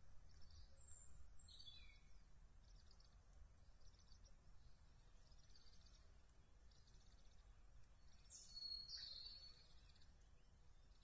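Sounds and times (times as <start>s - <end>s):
small birds trilling: 0.3s - 11.0s.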